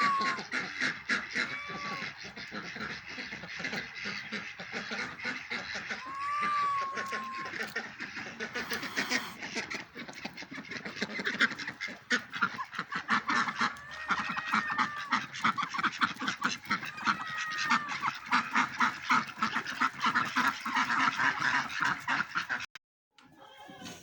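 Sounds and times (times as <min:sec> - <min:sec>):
waterfowl honking and quacking: 0:00.0 - 0:06.2, 0:06.8 - 0:22.7.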